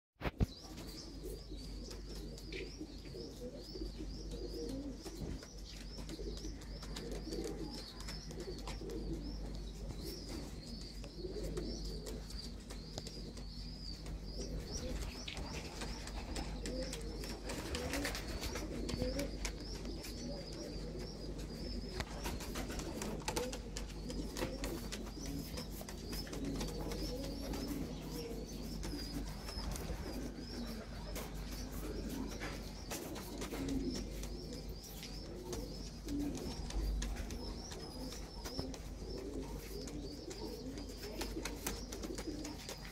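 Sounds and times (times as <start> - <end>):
pigeons cooing: 0.3 - 42.9
steady high chirping: 0.6 - 42.9.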